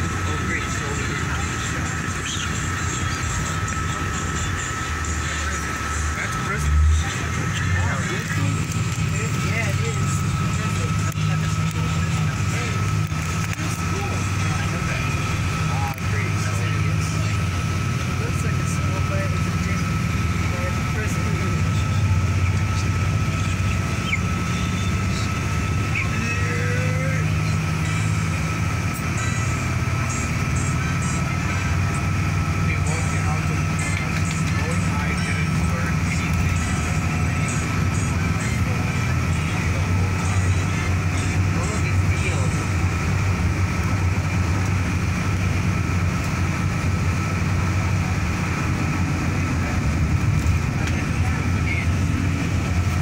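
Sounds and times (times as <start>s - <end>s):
car engine and road drone: 0.0s - 53.0s.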